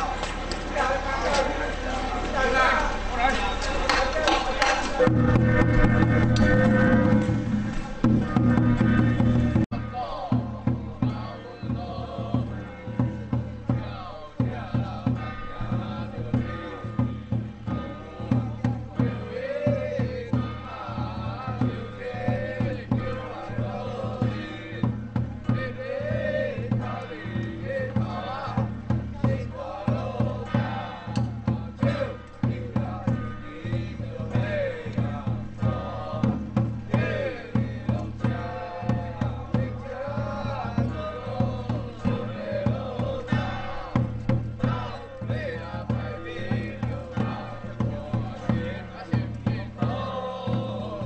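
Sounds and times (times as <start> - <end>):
drums beating steady rhythm: 0.0 - 51.0.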